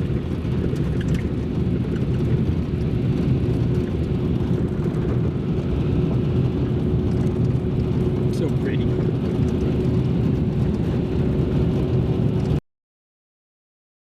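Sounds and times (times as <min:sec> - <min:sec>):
road and engine rumble in cab: 0:00.0 - 0:12.6.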